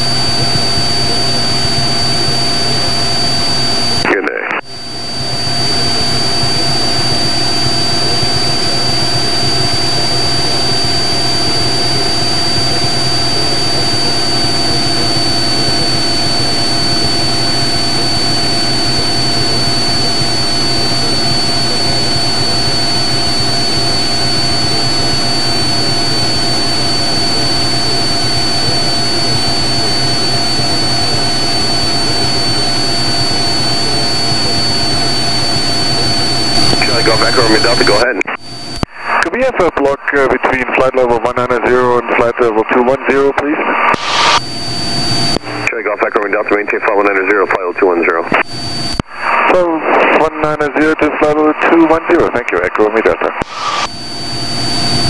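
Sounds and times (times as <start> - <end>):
aircraft engine and propeller drone: 0.0 - 4.0, 4.6 - 41.4, 43.8 - 52.0, 53.4 - 55.0
steady high-pitched tone: 0.0 - 39.3, 43.6 - 50.5, 53.4 - 55.0.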